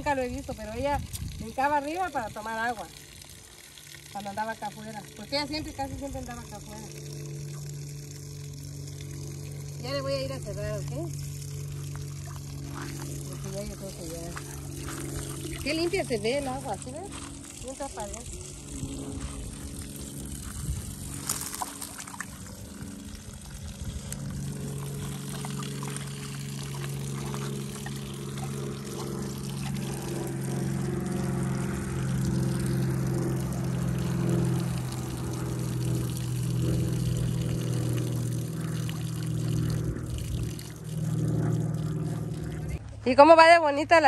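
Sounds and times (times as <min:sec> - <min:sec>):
water pouring: 0:00.0 - 0:42.8
low humming tone: 0:00.0 - 0:44.0.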